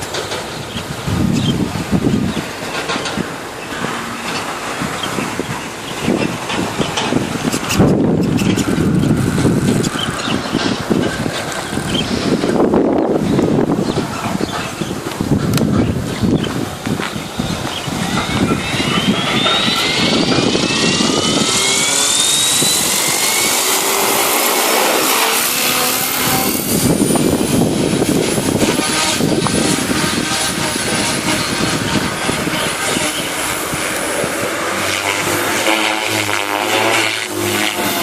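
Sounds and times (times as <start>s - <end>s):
rc helicopter motor whining: 0.0s - 38.0s.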